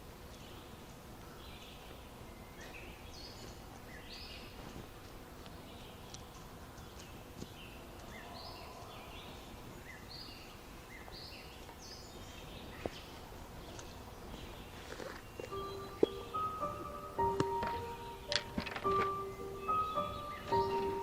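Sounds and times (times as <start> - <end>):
faint outdoor hiss: 0.0 - 21.0
small birds chirping: 0.0 - 21.0.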